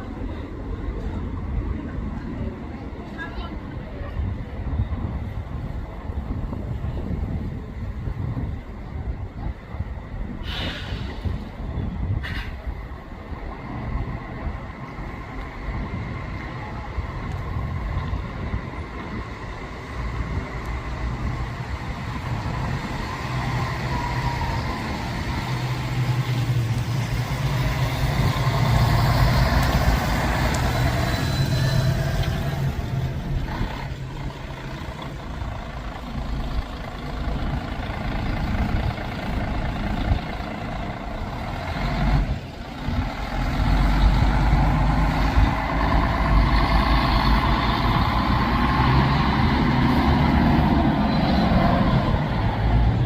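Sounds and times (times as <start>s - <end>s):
bus diesel engine: 0.0s - 53.0s
road noise: 0.0s - 53.0s.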